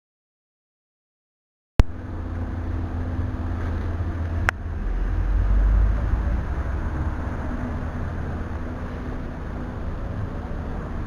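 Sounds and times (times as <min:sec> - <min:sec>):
noisy storm background: 0:01.8 - 0:11.0.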